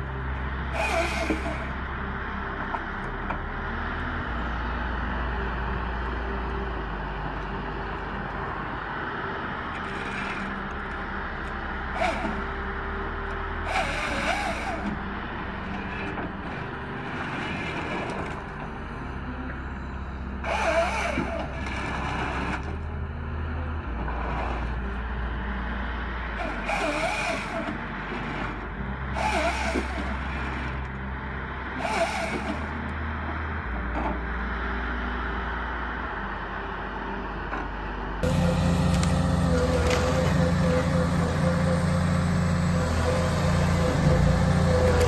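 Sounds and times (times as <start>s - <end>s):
heavy machine engine running: 0.0s - 45.0s.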